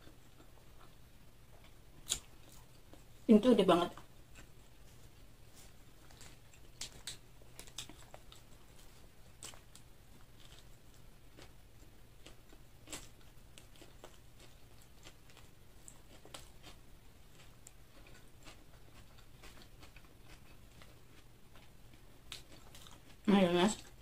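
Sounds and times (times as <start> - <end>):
faint low hum: 0.0 - 24.0
person chewing crunchy food: 4.2 - 24.0.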